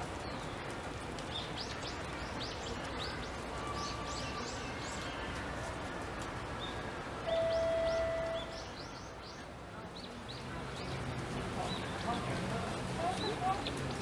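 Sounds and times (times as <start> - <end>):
background hubbub: 0.0 - 14.0
small birds chirping: 0.0 - 14.0.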